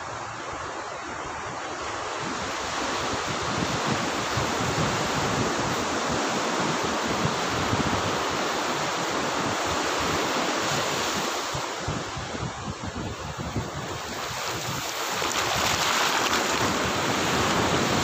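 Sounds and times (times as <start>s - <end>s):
surf washing up beach: 0.0s - 18.0s
wind buffeting microphone: 0.0s - 18.0s.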